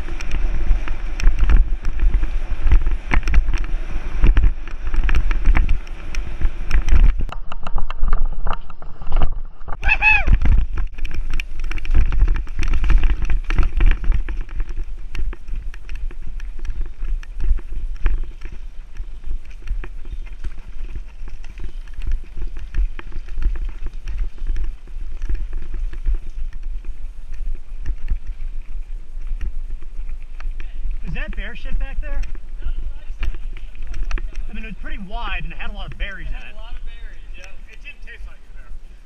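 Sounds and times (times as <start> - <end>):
bike tyres on dirt: 0.0 - 39.0
wind rumble on microphone: 0.0 - 39.0.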